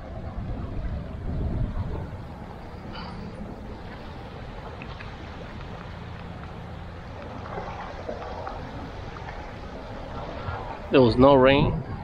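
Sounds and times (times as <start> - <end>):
low even rumble: 0.0 - 12.0
small waves lapping among rocks: 1.0 - 12.0.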